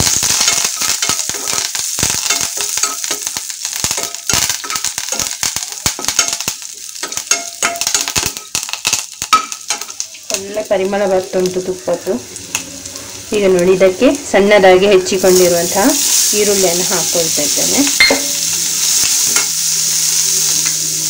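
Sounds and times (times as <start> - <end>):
sizzling with crackles and spatters: 0.0 - 21.0.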